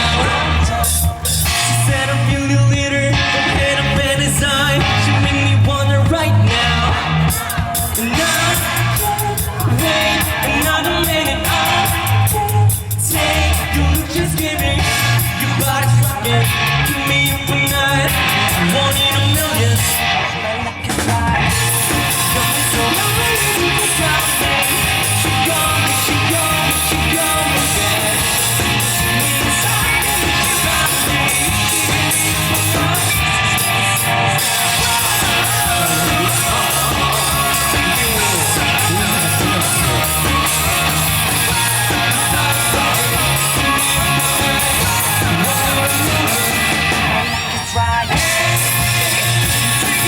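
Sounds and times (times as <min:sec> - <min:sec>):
electric guitar: 0:00.0 - 0:50.0
live rock band playing: 0:00.0 - 0:50.0.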